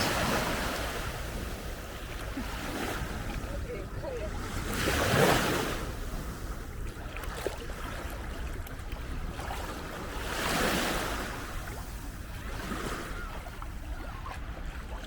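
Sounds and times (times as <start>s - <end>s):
small waves washing onto beach: 0.0s - 15.0s
wind rumble on microphone: 0.0s - 15.0s.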